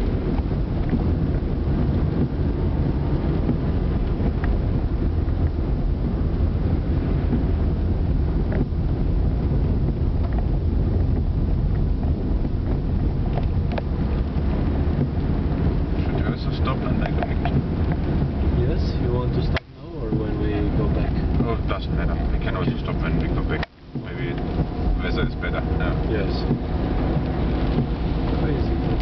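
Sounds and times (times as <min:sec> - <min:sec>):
car engine and tyres on wet road: 0:00.0 - 0:29.0.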